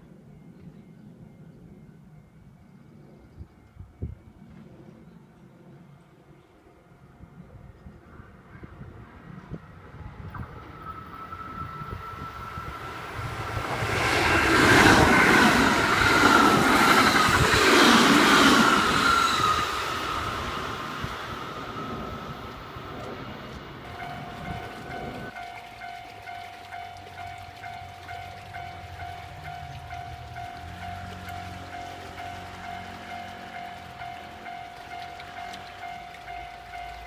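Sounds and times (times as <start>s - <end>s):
electric train passing: 0.0s - 37.0s.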